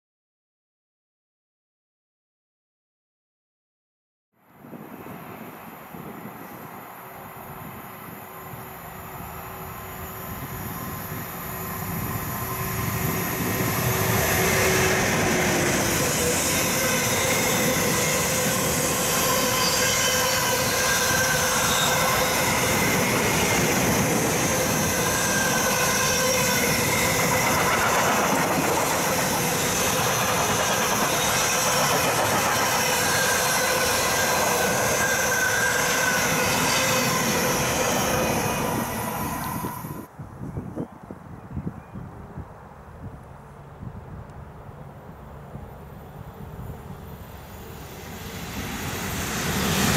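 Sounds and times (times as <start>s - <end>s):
train wheels rolling on rail: 4.7s - 40.1s, 44.4s - 49.9s.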